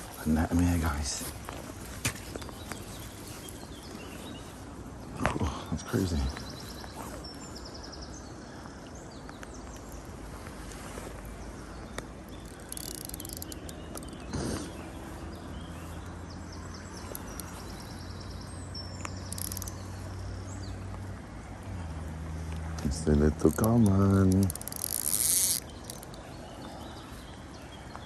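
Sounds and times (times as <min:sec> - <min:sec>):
small birds singing: 0:00.0 - 0:28.0.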